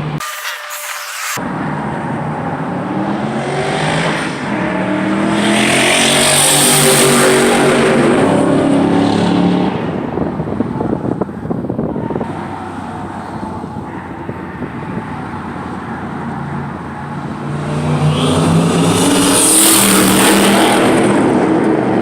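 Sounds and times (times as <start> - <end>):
car exhaust under hard acceleration: 1.4 - 22.0.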